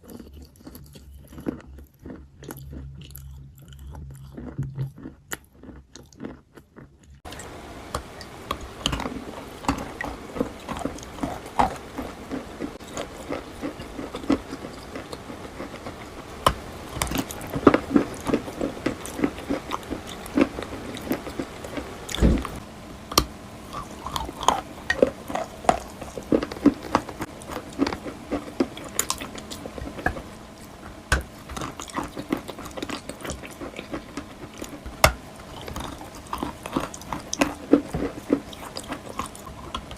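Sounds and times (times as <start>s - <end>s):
chalk being chewed: 0.0s - 7.4s, 8.5s - 22.2s, 23.1s - 39.9s.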